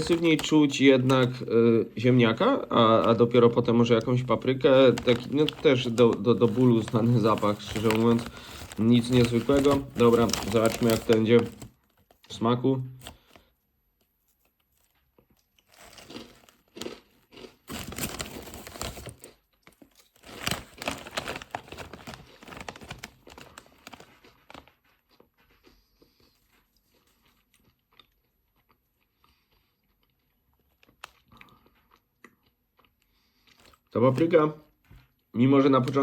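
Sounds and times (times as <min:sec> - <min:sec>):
chips being crunched and chewed: 0:00.0 - 0:01.4, 0:02.8 - 0:12.3, 0:14.4 - 0:34.3.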